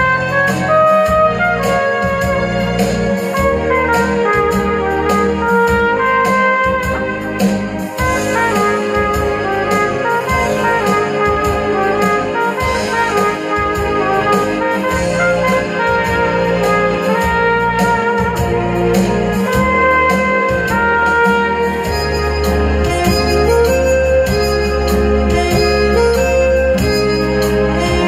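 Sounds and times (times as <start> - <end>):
accompanying music with bass line: 0.0 - 28.0
trumpet melody: 0.0 - 28.0.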